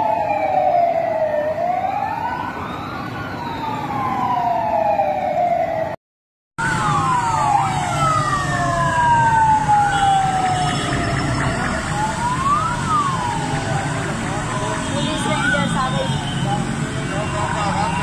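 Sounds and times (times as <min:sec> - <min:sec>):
low traffic rumble: 0:00.0 - 0:06.0, 0:06.6 - 0:18.0
sirens wailing and yelping: 0:00.0 - 0:06.0, 0:06.6 - 0:18.0.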